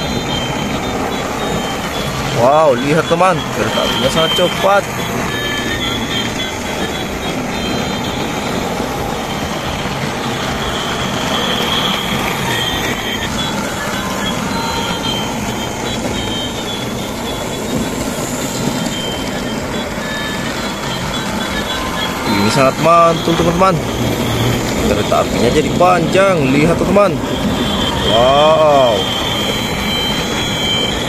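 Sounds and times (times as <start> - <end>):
plastic wheels rattling: 0.0 - 31.0
small electric motors whirring: 0.0 - 31.0.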